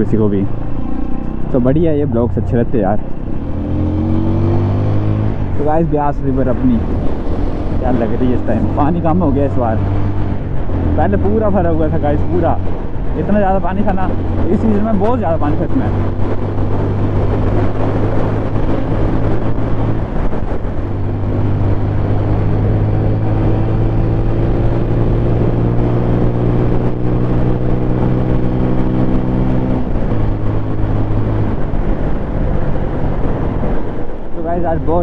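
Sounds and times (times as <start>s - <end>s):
road and wind noise: 0.0s - 35.0s.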